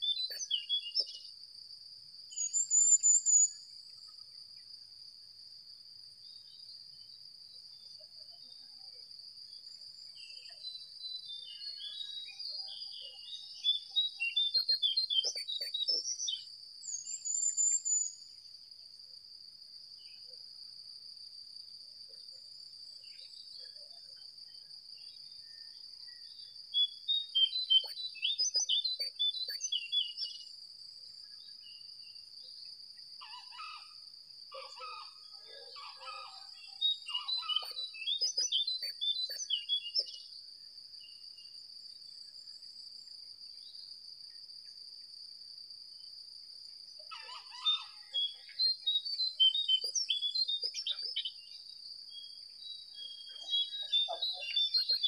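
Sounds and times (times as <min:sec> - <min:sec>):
songbirds chirping: 0:00.0 - 0:45.3, 0:46.0 - 0:55.0.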